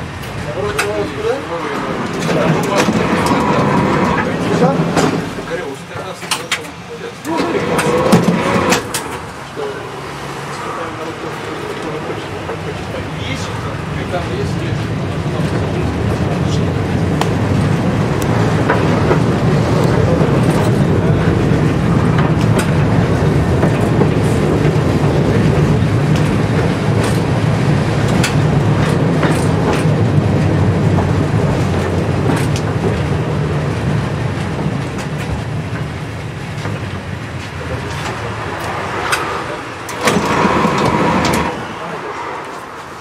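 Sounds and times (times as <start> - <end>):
tram wheels rumbling: 0.0 - 43.0
wheels clicking over rail joints: 0.0 - 43.0.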